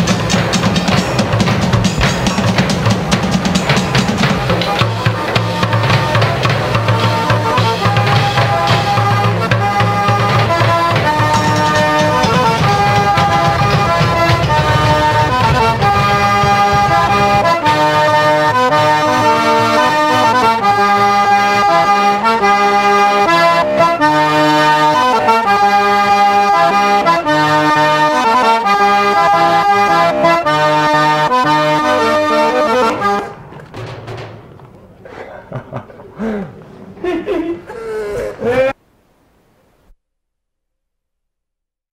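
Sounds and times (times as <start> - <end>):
accordion melody: 0.0 - 33.7
band music: 0.0 - 36.7.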